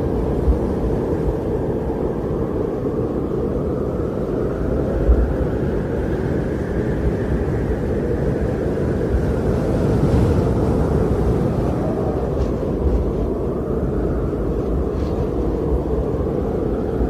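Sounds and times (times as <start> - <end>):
wind rushing with gusts: 0.0 - 17.0.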